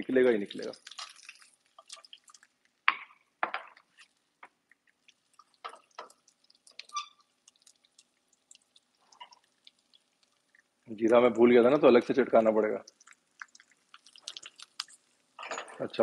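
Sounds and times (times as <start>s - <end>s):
food popping in hot oil: 0.0s - 16.0s.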